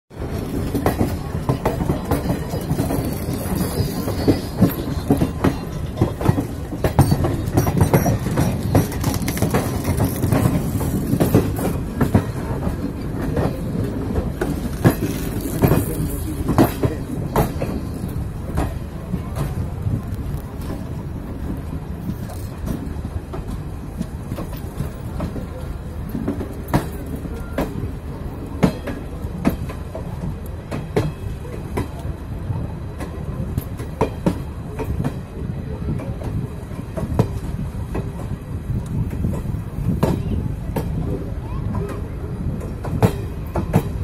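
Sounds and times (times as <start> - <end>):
train wheels rumbling on rails: 0.1 - 44.0
wheels clacking over rail joints: 0.1 - 44.0.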